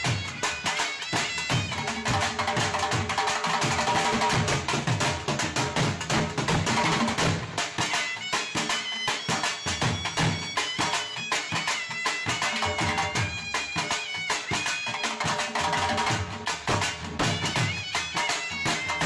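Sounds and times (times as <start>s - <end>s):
wind instrument melody: 0.0s - 4.2s, 7.6s - 19.0s
steady drum beat: 0.0s - 19.0s.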